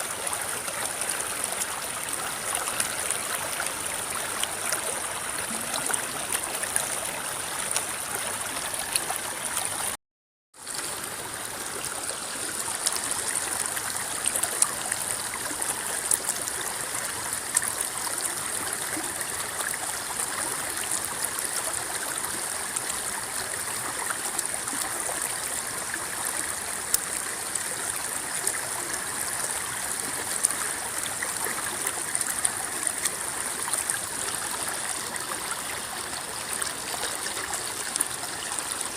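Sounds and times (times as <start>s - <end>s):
river water babbling: 0.0s - 10.0s, 10.6s - 38.9s.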